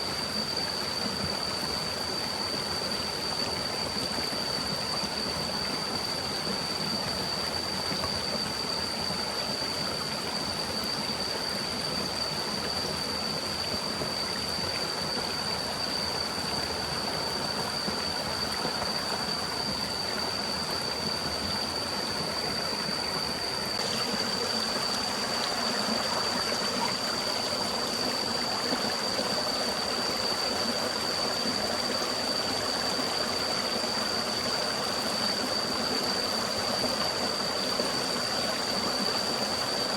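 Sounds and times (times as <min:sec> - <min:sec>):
forest stream flowing: 0:00.0 - 0:39.9
steady thin high tone: 0:00.0 - 0:39.9.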